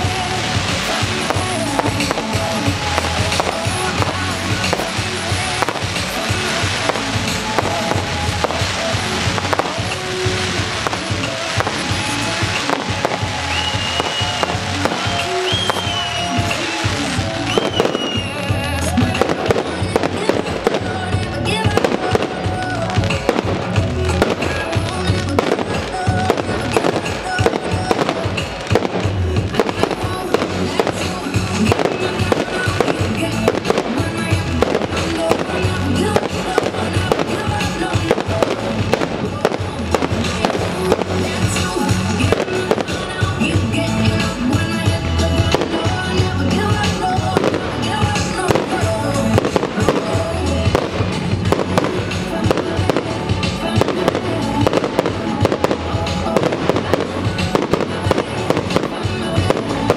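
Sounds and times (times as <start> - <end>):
firework shell bursts and crackle: 0.0 - 59.9
music playing: 0.0 - 59.9.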